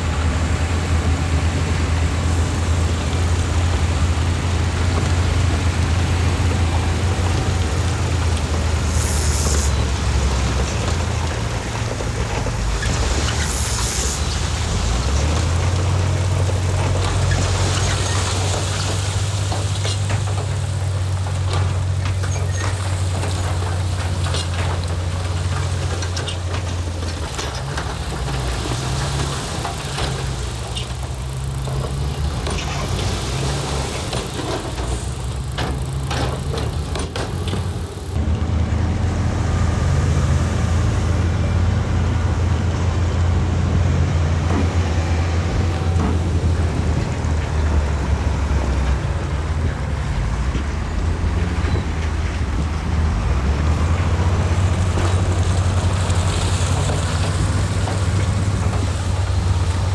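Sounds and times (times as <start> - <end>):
heavy diesel machinery droning: 0.0 - 59.9.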